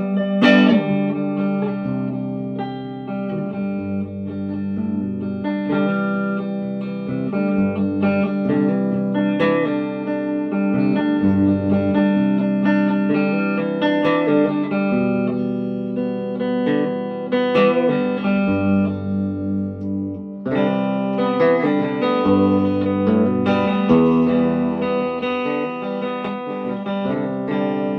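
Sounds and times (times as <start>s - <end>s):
electric guitar playing: 0.0s - 27.9s.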